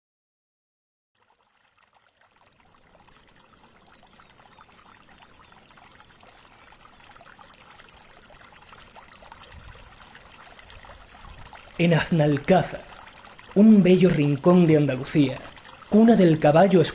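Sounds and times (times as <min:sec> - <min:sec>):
fountain water pouring and splashing: 0:01.2 - 0:16.9.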